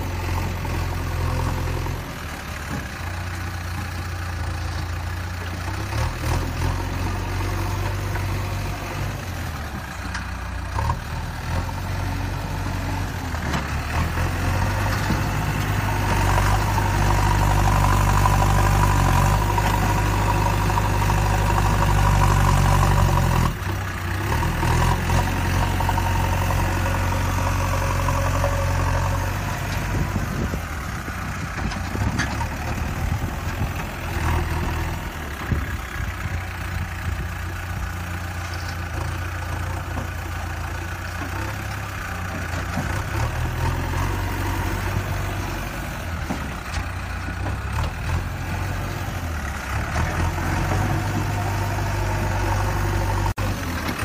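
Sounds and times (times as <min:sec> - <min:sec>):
heavy vehicle engine idling: 0:00.0 - 0:06.2, 0:07.0 - 0:54.0.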